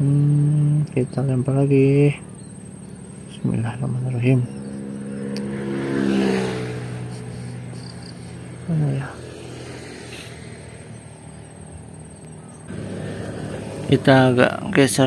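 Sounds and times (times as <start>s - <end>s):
passing vehicle engine drone: 0.0s - 15.0s.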